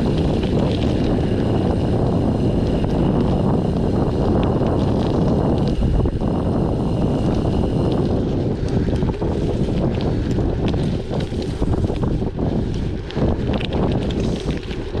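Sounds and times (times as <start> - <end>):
bicycle rolling: 0.0 - 15.0
clicks and rattles from bike: 0.0 - 15.0
wind buffeting microphone: 0.0 - 15.0.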